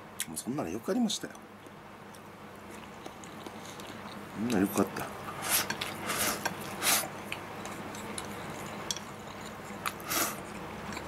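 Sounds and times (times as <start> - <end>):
noisy eating sounds: 1.3 - 11.0.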